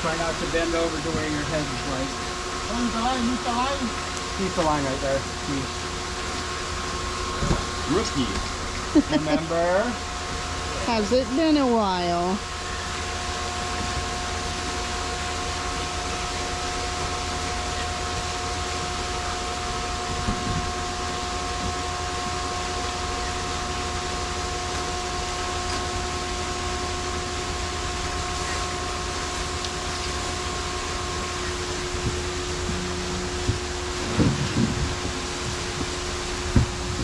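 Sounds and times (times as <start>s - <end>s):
machinery drone with whining tones: 0.0s - 37.0s.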